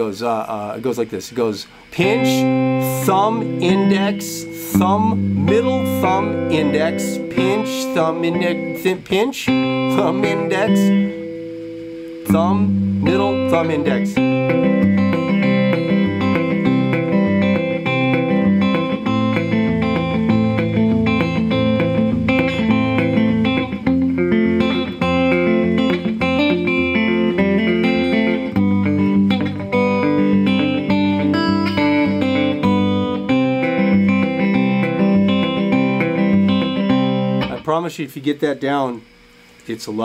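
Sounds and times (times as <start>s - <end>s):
fingerstyle electric guitar: 0.0s - 37.9s.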